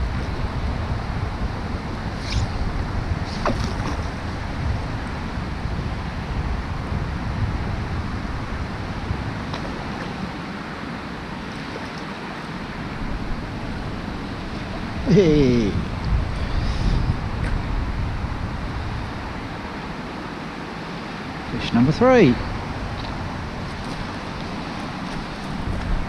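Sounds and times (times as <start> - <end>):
wind gusting on microphone: 0.0 - 26.0.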